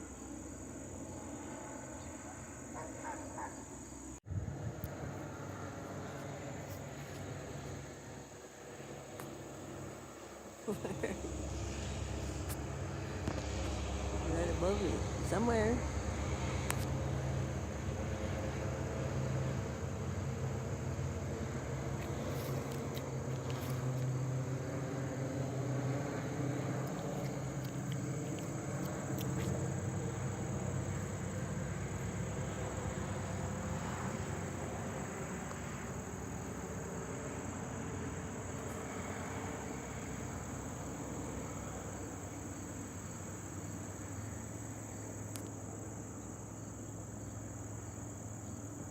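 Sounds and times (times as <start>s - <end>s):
crickets chirring: 0.0s - 48.9s
low engine hum: 0.0s - 48.9s.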